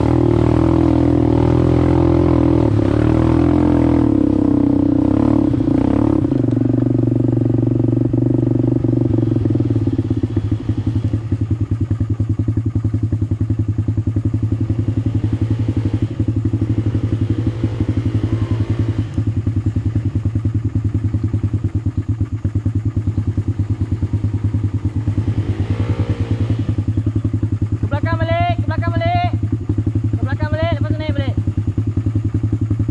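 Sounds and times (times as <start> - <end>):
atv engine chugging: 0.0 - 32.9.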